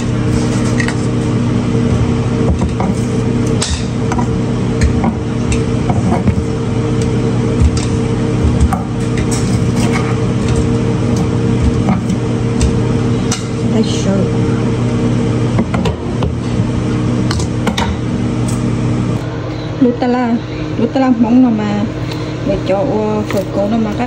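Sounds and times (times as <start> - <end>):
appliance hum: 0.0 - 24.0.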